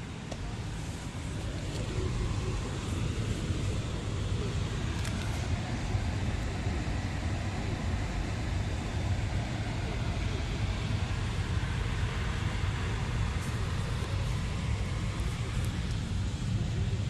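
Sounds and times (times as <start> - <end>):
light hiss: 0.0 - 17.0.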